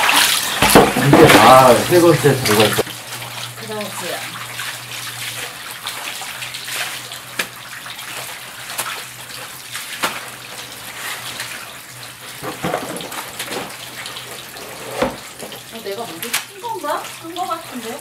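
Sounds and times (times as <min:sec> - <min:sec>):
water sloshing in plastic tubs: 0:00.0 - 0:18.0.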